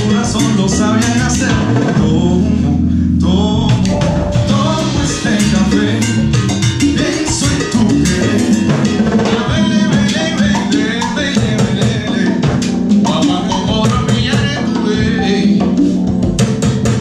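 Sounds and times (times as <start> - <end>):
drum kit and congas beat: 0.0 - 17.0
salsa band playing: 0.0 - 17.0.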